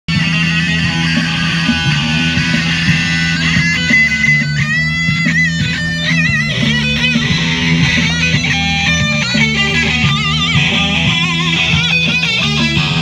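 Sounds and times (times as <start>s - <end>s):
electric guitar blues lead: 0.1s - 13.0s.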